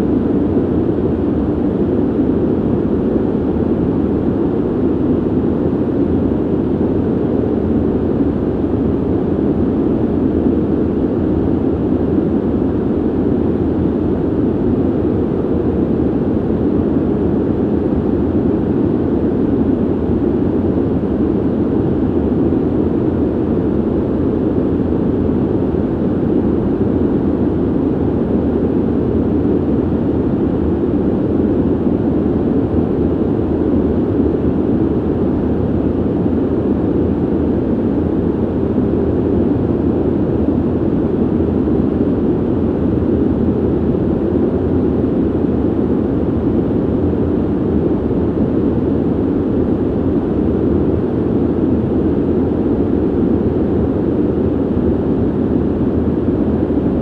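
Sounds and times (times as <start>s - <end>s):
ventilation air rushing: 0.0s - 57.0s.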